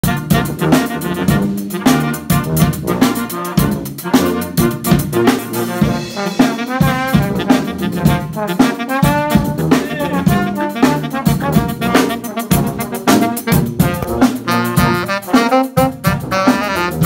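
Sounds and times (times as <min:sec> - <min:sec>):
bass line: 0:00.0 - 0:17.0
drum kit beat: 0:00.0 - 0:17.0
trombone: 0:00.0 - 0:17.0
trumpets: 0:00.0 - 0:17.0.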